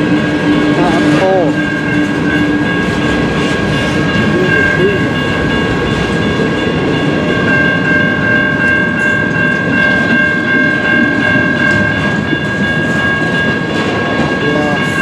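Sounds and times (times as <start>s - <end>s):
freight train cars rumbling: 0.0s - 15.0s
high-pitched ringing tone: 0.0s - 15.0s.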